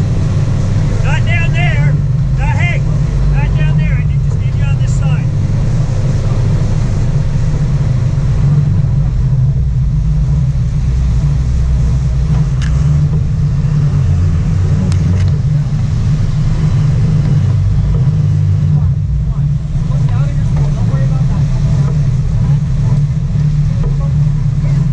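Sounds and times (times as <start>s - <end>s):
boat engines rumbling: 0.0s - 24.9s
churning wake: 0.0s - 24.9s.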